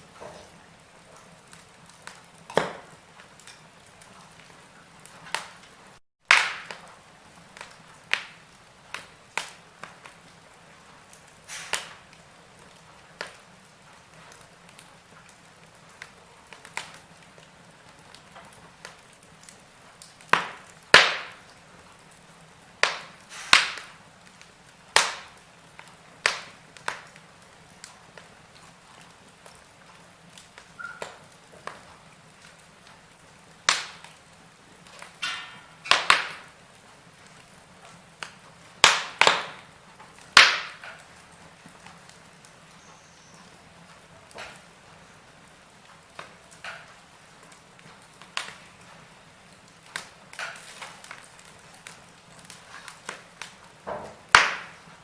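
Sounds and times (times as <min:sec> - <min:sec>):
faint hiss of fire: 0:00.0 - 0:55.0
wood fire crackling and popping: 0:00.0 - 0:55.0.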